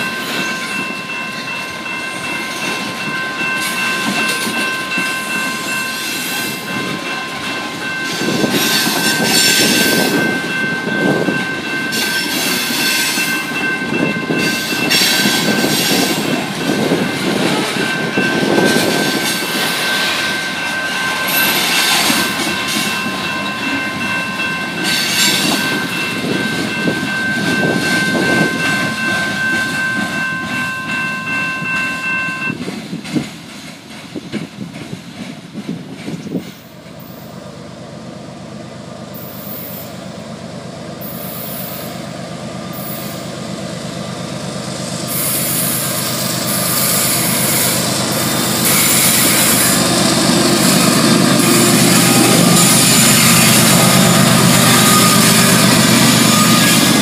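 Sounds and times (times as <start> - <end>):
level crossing warning bell: 0.0 - 32.6, 39.1 - 57.0
freight train wheels clattering: 0.0 - 37.4, 40.9 - 57.0.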